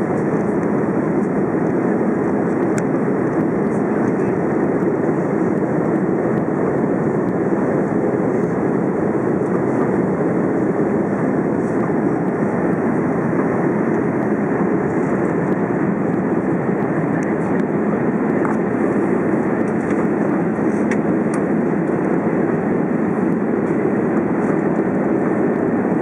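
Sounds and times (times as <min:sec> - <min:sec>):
jet engines and rushing air: 0:00.0 - 0:26.0.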